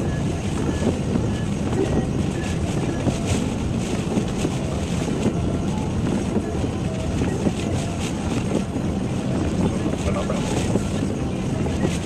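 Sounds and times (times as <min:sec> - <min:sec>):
ferry engine low rumble: 0:00.0 - 0:12.0
rain buffeting: 0:00.0 - 0:12.0
storm wind buffeting: 0:00.0 - 0:12.0.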